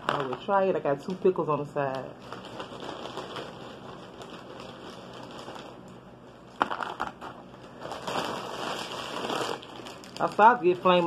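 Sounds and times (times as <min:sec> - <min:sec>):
food packaging crinkling: 0:01.9 - 0:11.0.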